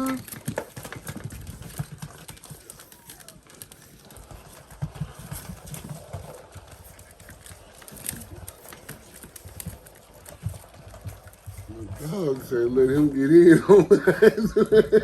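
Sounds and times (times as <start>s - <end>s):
puppies scrambling on floor: 0.0s - 15.0s.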